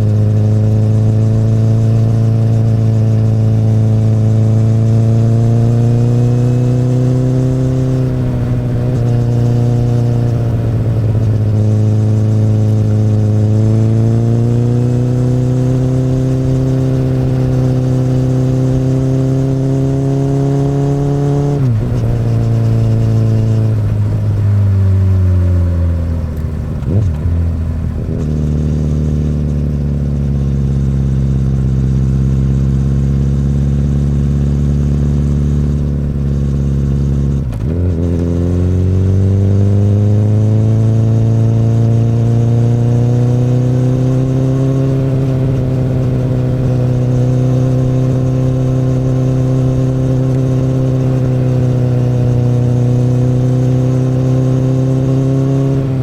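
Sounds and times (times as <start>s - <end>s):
motorcycle engine on the road: 0.0s - 56.0s.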